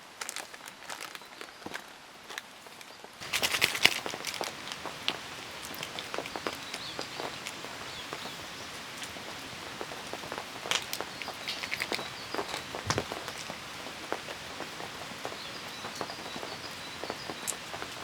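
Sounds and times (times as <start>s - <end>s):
raindrops ticking on a surface: 0.1s - 18.0s
steady rain: 1.9s - 18.0s.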